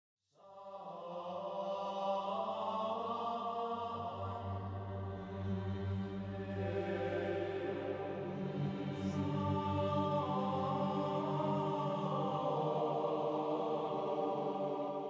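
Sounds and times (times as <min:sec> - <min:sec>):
drone-like background music: 0:02.4 - 0:15.0.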